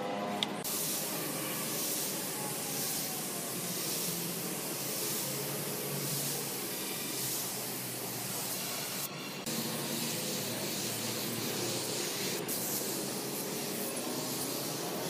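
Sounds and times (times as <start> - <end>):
spray gun hissing: 0.6 - 15.0.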